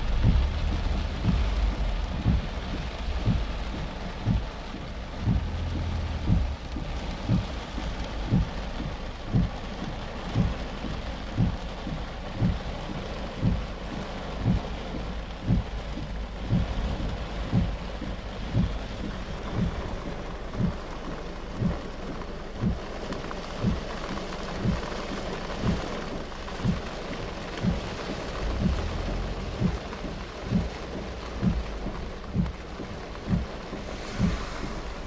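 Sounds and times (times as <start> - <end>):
heavy rain drumming on a car: 0.0 - 35.0
windscreen wipers thudding: 0.0 - 35.0.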